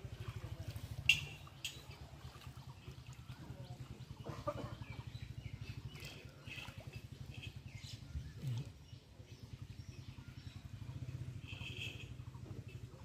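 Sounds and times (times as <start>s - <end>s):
low pulsing engine: 0.0s - 13.0s
birds chirping: 0.4s - 13.0s.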